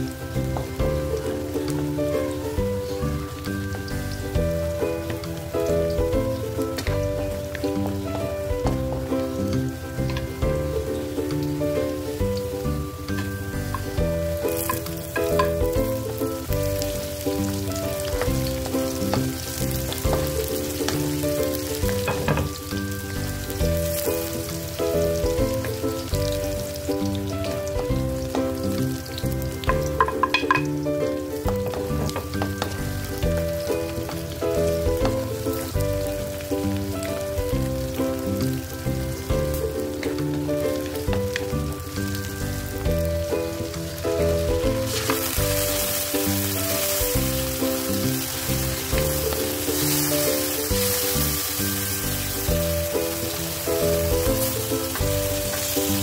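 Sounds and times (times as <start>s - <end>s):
food sizzling in a wok: 0.0s - 56.0s
rhythmic background music: 0.0s - 56.0s.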